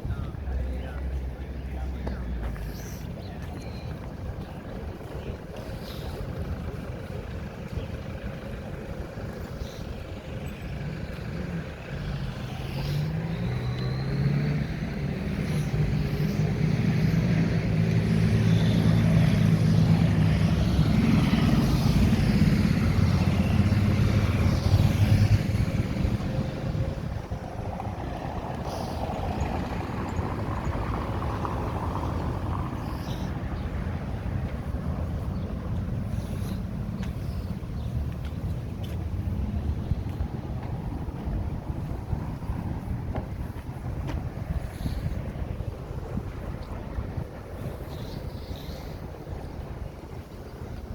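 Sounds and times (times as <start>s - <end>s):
background traffic noise: 0.0s - 50.9s
vehicle engine passing: 0.1s - 50.9s.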